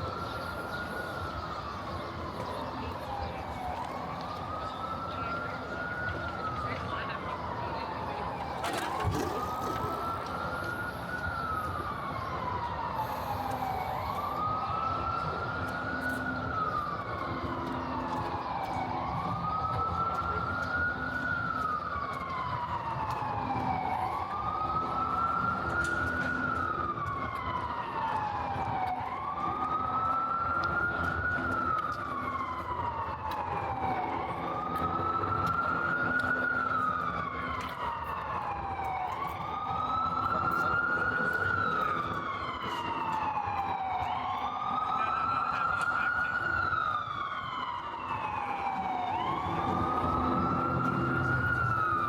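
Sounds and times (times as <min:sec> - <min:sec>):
city street noise: 0:00.0 - 0:52.0
emergency siren wailing: 0:00.0 - 0:52.0.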